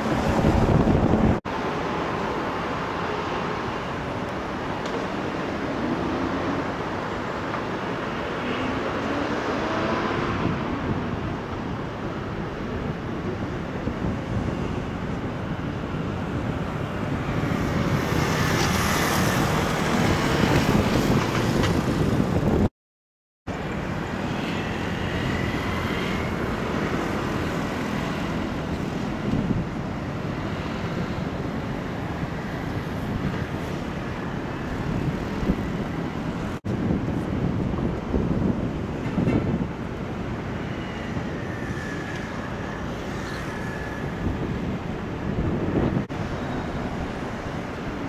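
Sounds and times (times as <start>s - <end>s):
vehicle noise: 0.0s - 22.7s, 23.5s - 48.0s.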